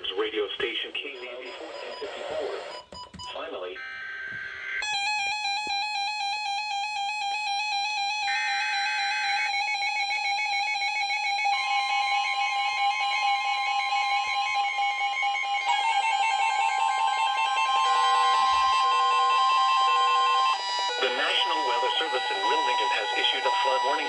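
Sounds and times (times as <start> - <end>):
emergency alert tone: 0.7 - 24.0.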